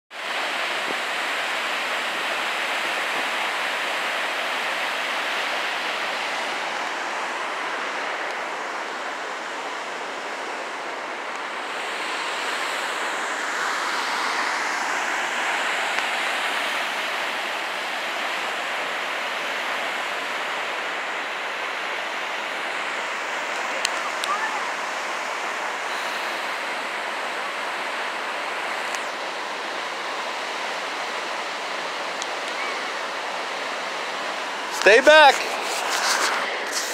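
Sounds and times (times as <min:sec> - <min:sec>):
waterfall roaring: 0:00.2 - 0:36.9.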